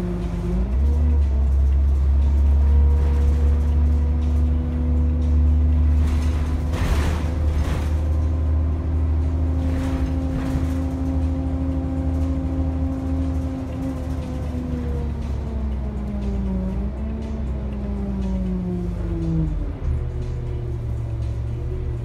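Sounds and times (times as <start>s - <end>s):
bus engine rumble with whine: 0.0s - 22.0s.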